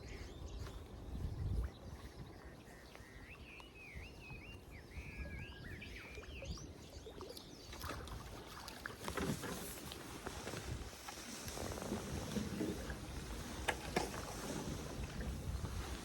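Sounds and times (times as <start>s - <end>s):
songbird chirping: 0.0s - 15.9s.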